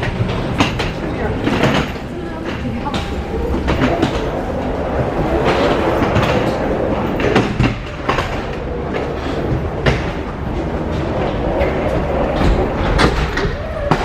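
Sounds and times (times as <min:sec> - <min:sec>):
clacks and knocks: 0:00.0 - 0:14.0
vehicle interior rumble: 0:00.0 - 0:14.0.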